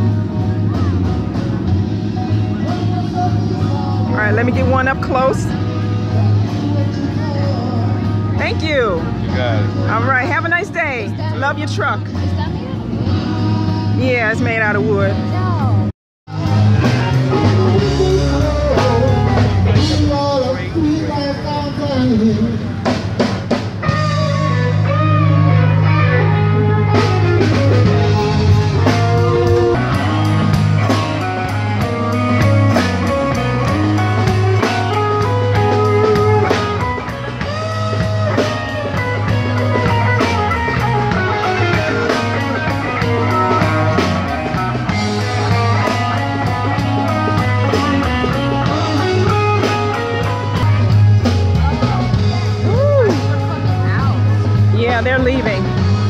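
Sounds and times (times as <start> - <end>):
rock music with guitar and drums: 0.0 - 56.0.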